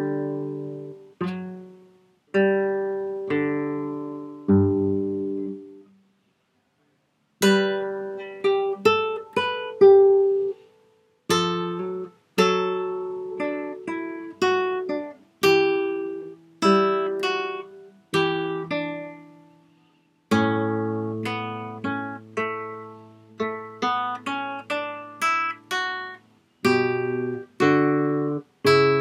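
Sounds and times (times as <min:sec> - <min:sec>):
acoustic guitar plucked notes: 0:00.0 - 0:06.0, 0:07.4 - 0:29.0.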